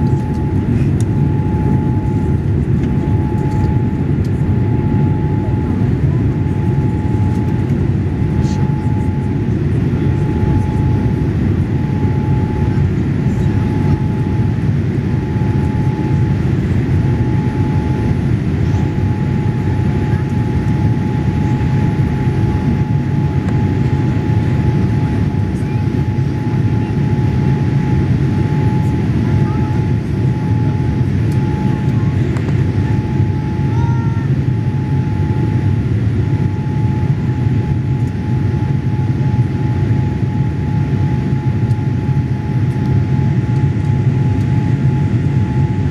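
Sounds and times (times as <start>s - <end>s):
aircraft engine roar: 0.0s - 45.9s
constant tone: 0.0s - 45.9s.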